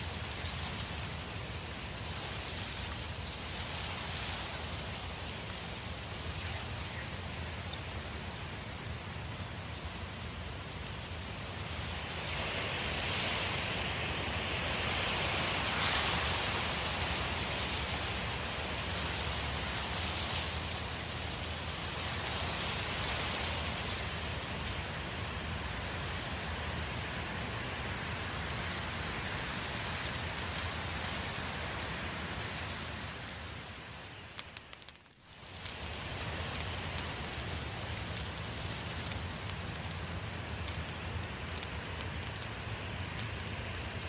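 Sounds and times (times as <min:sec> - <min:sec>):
fire burning rush: 0:00.0 - 0:44.0
fire crackling: 0:00.0 - 0:44.0.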